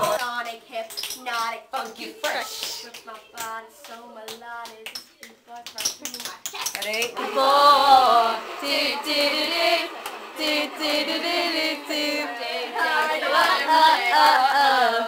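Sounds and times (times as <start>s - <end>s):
young female voices singing: 0.0s - 5.8s, 7.0s - 15.0s.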